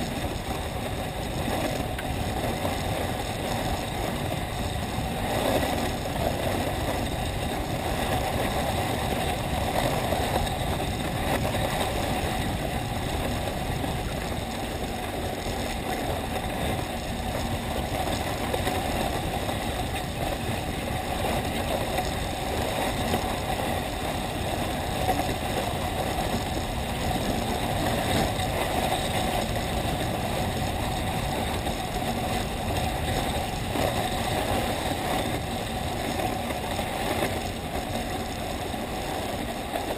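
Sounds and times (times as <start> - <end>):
runners sliding over snow: 0.0 - 39.9.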